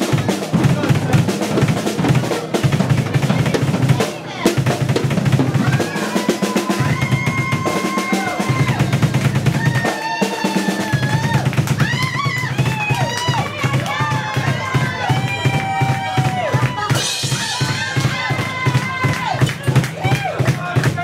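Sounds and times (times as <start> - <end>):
drum kit solo: 0.0 - 21.0.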